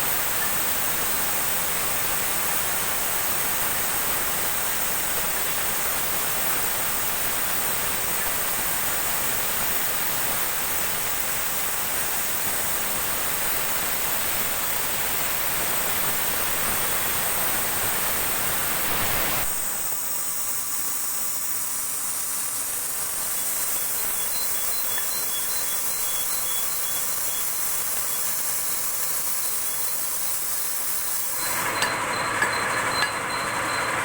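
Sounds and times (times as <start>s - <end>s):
plasma cutter hissing: 0.0s - 31.8s.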